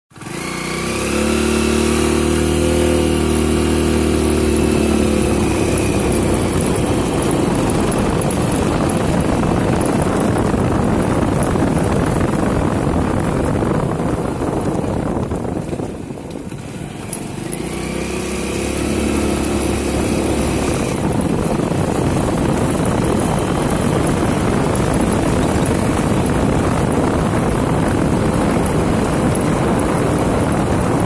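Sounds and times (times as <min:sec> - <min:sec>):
motorcycle engine running: 0:00.1 - 0:31.0
wind and road noise on microphone: 0:00.1 - 0:31.0.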